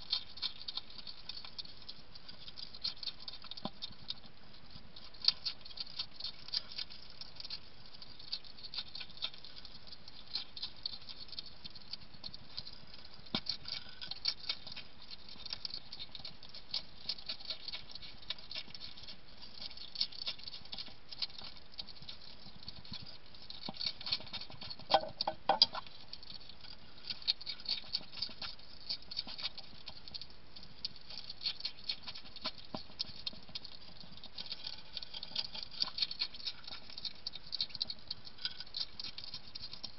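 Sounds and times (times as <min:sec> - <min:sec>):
hedgehog crunching biscuits: 0:00.0 - 0:39.9.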